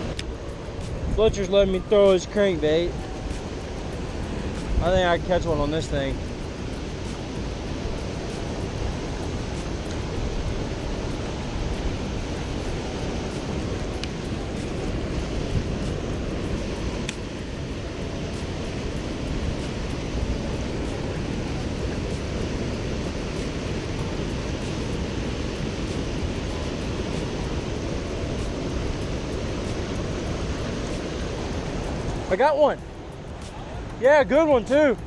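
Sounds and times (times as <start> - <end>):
white water rushing: 0.0 - 35.0.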